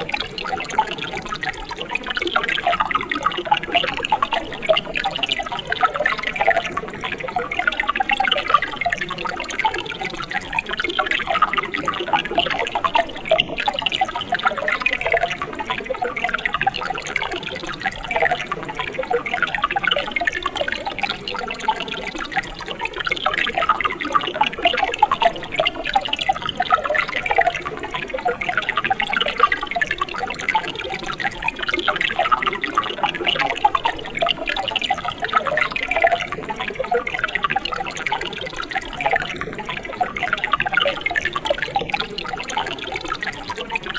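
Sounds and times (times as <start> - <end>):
stream babbling and gurgling: 0.0 - 43.9.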